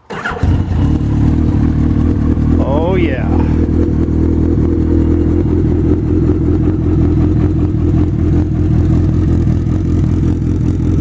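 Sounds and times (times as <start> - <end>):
motorcycle engine running: 0.2 - 11.0.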